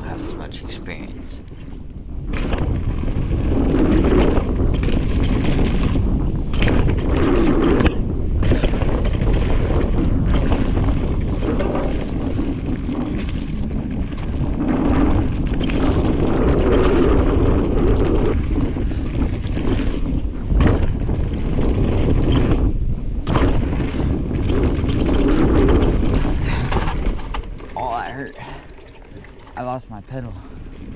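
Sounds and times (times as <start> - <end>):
bike tyres rumbling on dirt trail: 0.0 - 30.9
wind buffeting microphone: 0.0 - 30.9.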